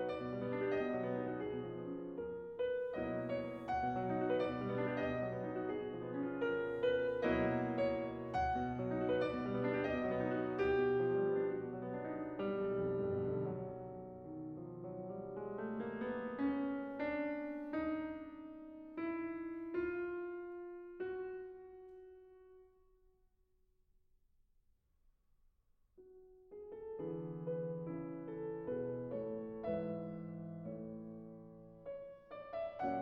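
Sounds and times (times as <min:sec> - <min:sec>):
slow piano music: 0:00.0 - 0:23.1, 0:26.0 - 0:33.0.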